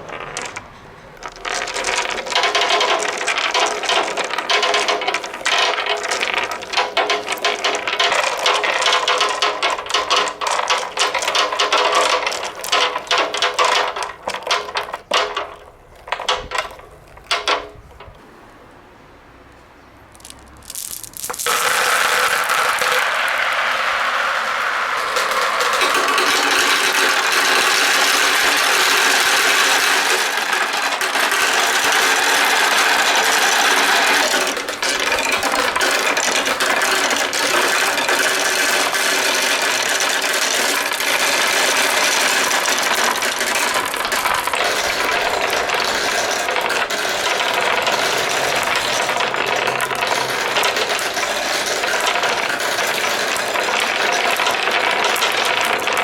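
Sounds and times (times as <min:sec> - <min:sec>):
marbles rattling down a run: 0:00.0 - 0:18.2, 0:20.1 - 0:56.0.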